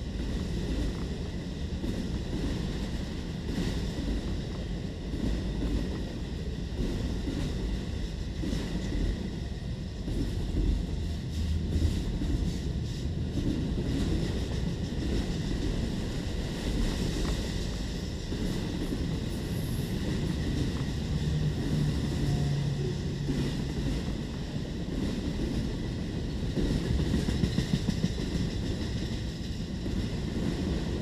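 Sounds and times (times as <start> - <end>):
steel wheels rumbling on rails: 0.0 - 31.0.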